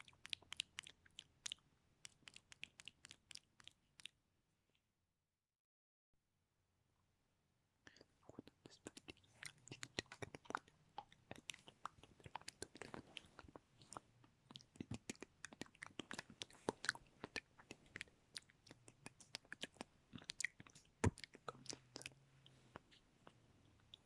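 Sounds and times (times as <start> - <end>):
wet mouth clicks and smacks: 0.0 - 4.2, 8.8 - 24.0.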